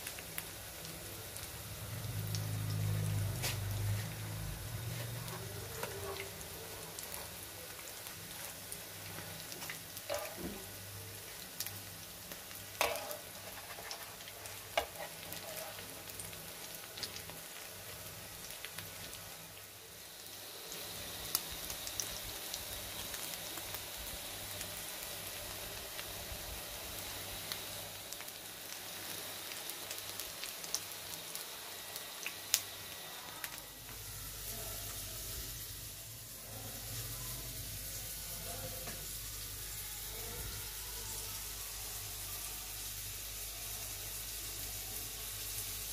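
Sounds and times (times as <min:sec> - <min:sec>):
patties sizzling in oil: 0:00.0 - 0:45.9.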